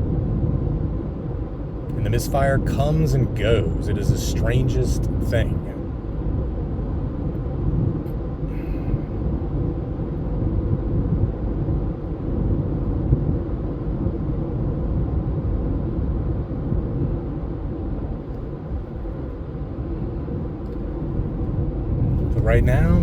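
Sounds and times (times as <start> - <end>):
in-cabin road and engine rumble: 0.0 - 23.0.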